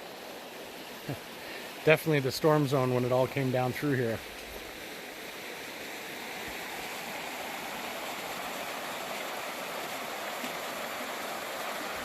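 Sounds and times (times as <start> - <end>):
brook rushing over rocks: 1.0 - 12.0.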